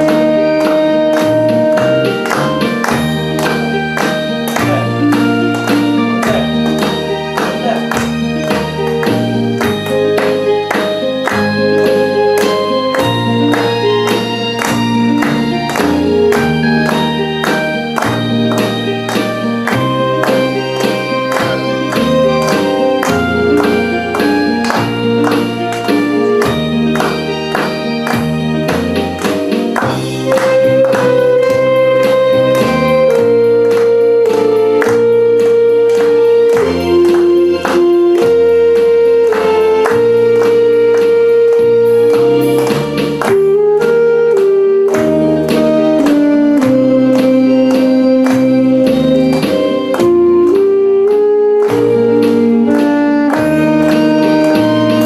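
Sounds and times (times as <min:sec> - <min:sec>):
backing track with beat and bass: 0:00.0 - 0:55.0
saxophone slow melody: 0:00.0 - 0:55.0.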